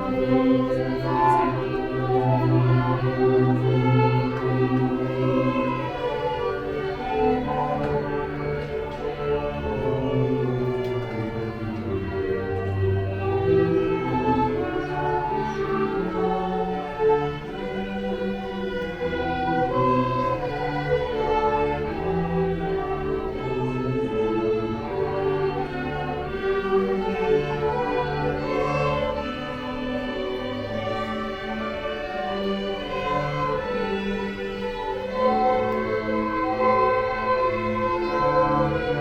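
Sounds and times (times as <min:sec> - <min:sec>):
slow orchestral strings: 0:00.0 - 0:39.0.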